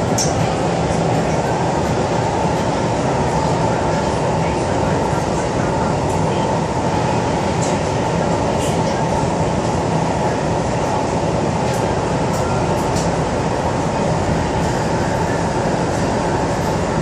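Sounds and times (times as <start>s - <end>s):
train rumbling through tunnel: 0.0s - 17.0s.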